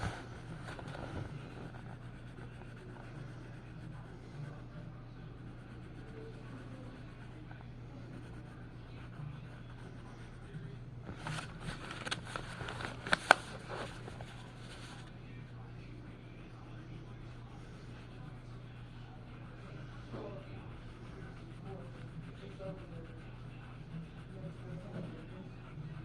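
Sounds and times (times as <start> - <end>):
art tool scratching on paper: 0.0 - 15.6, 17.2 - 26.0
steady low hum: 0.0 - 26.0.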